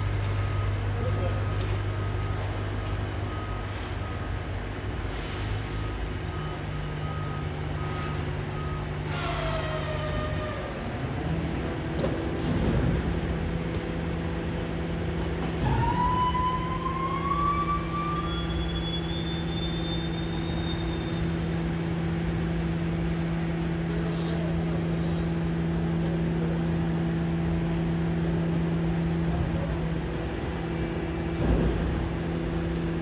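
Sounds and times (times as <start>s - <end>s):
truck machinery humming: 0.0s - 33.0s.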